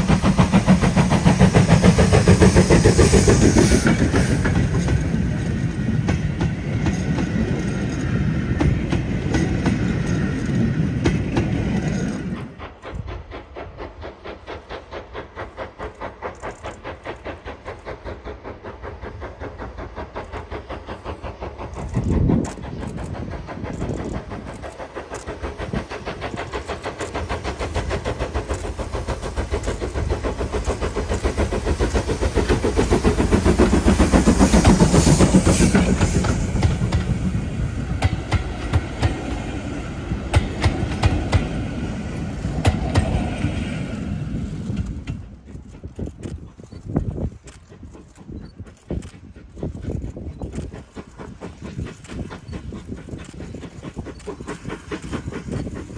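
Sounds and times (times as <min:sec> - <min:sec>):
steam locomotive exhaust beats: 0:00.0 - 0:55.9
train wheels rumbling: 0:00.0 - 0:55.9.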